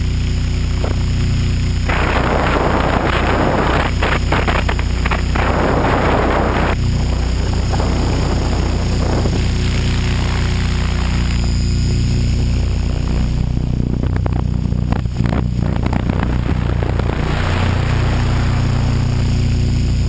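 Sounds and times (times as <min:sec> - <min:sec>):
helicopter rotor running: 0:00.0 - 0:20.0
wind rushing over microphone: 0:00.7 - 0:20.0.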